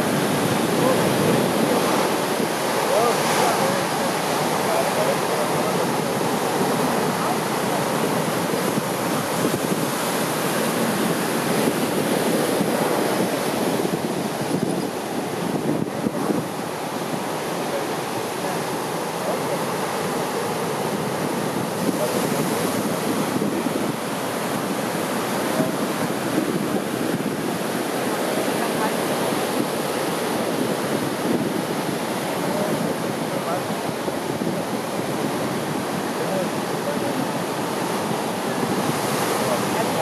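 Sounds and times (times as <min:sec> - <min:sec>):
surf breaking on beach: 0:00.0 - 0:40.0.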